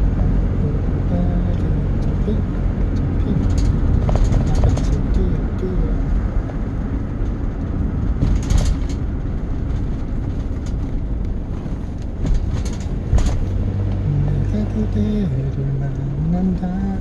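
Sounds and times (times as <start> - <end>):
vehicle rattles: 0.0 - 17.0
vehicle rumbling: 0.0 - 17.0.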